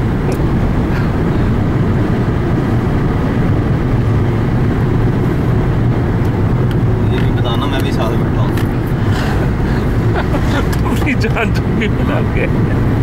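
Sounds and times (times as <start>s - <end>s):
car interior road drone: 0.0s - 13.0s.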